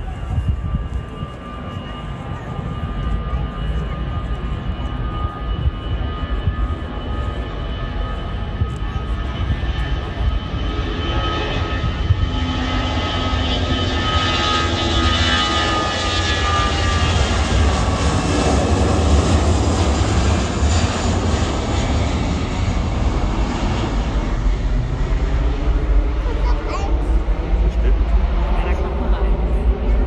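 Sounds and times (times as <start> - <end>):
airliner engines rumbling and whining: 0.0 - 30.0.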